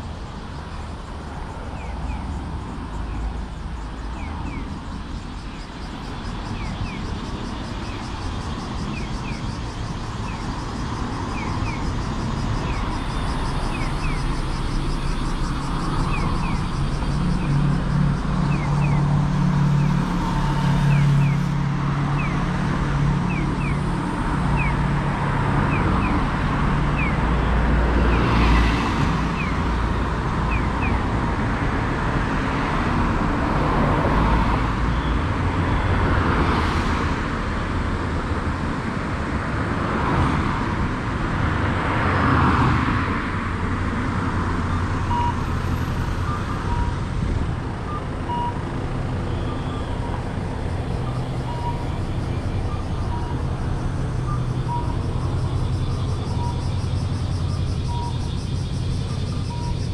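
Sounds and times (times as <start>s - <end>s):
cars passing: 0.0s - 59.9s
traffic rumble: 0.0s - 59.9s.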